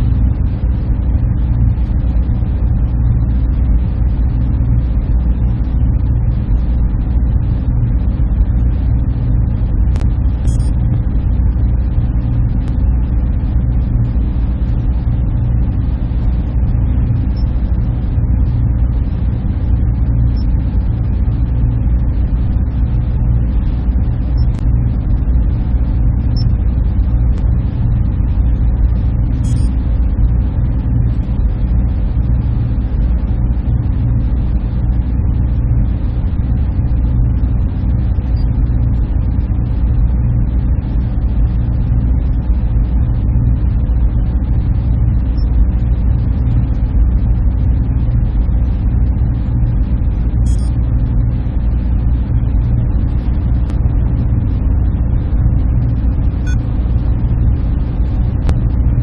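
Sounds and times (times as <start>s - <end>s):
low drone of machines and fans: 0.0s - 59.0s.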